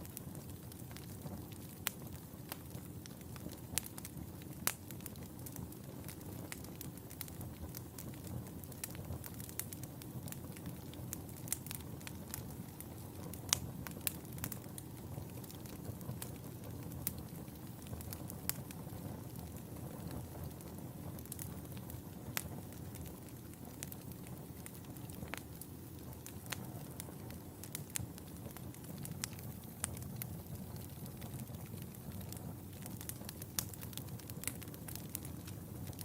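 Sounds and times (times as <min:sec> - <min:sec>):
fire crackling and popping: 0:00.0 - 0:36.0
fire flames rumbling: 0:00.0 - 0:36.0.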